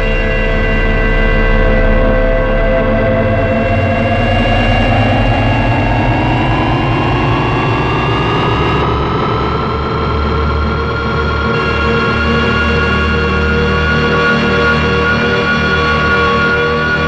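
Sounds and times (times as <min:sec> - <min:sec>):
spacecraft engine rumble and whine: 0:00.0 - 0:17.0.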